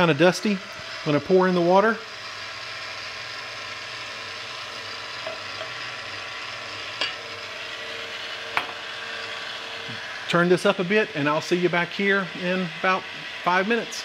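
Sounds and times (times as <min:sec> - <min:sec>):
stand mixer whirring: 0:00.0 - 0:14.0.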